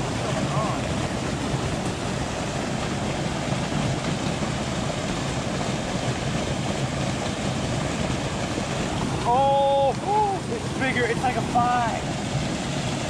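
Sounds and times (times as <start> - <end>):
water pouring from pipe into pool: 0.0 - 13.0.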